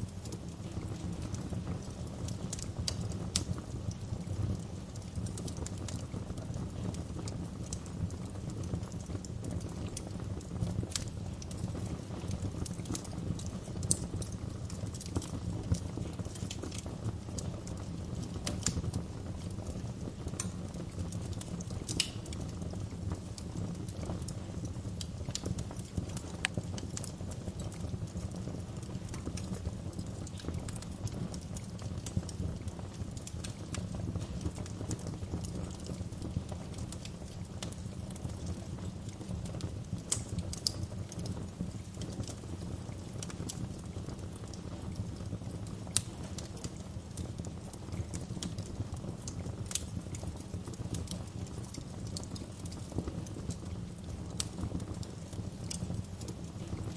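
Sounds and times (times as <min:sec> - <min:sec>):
low rumble of burning: 0:00.0 - 0:56.9
wood fire crackling: 0:00.0 - 0:56.9.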